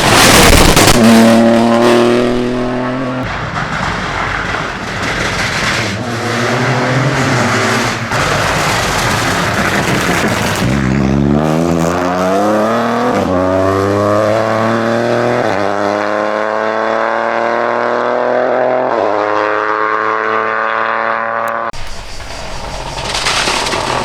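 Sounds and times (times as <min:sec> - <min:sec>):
rally car engine accelerating: 0:00.0 - 0:24.0.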